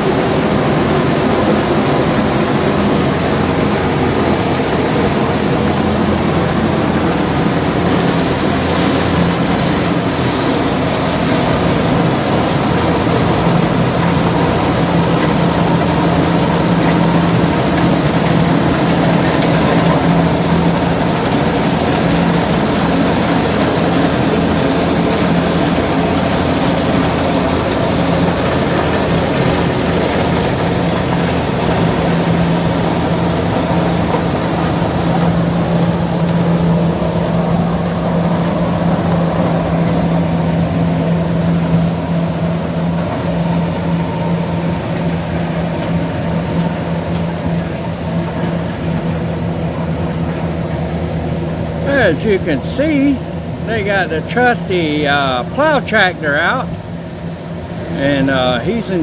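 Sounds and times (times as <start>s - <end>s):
harvesting machine engine droning: 0.0s - 59.0s.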